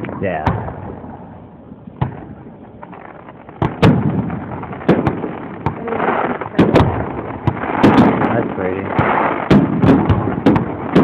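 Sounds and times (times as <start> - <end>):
fireworks bursting with loud bangs: 0.0 - 11.0.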